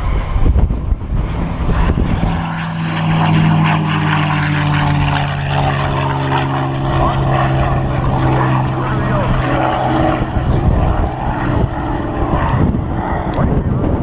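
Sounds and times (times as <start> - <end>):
propeller airplane engine drone: 0.0 - 14.0.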